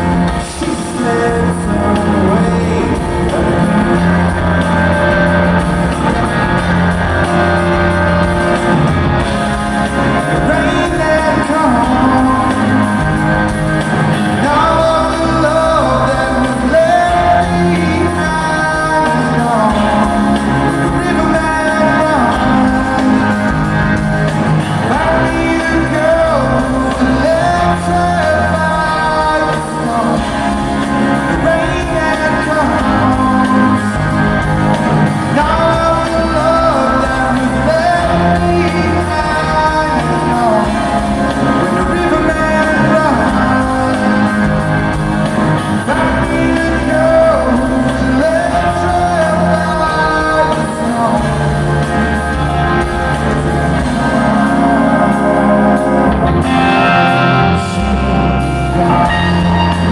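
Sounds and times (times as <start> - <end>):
person singing lead vocal: 0.0 - 59.9
rock band playing live: 0.0 - 59.9.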